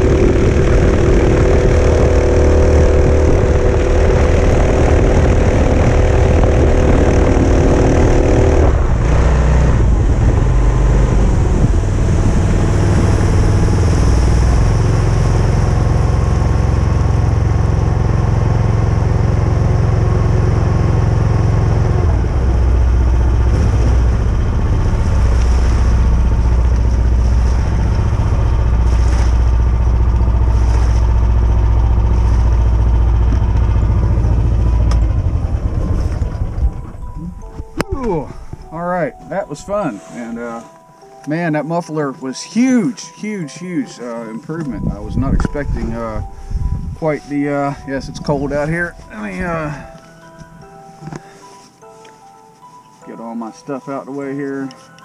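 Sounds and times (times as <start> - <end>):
kayak engine droning: 0.0 - 55.0.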